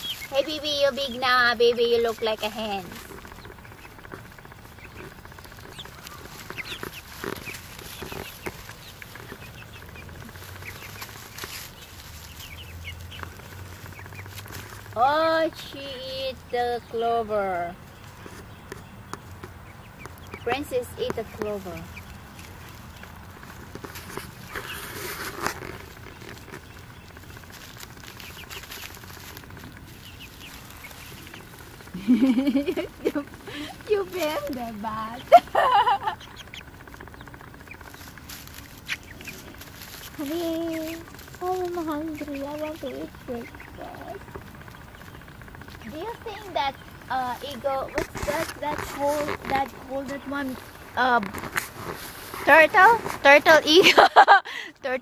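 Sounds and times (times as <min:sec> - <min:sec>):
scratching and rustling in pine straw: 0:00.0 - 0:54.3
young hens peeping and clucking: 0:00.0 - 0:55.0.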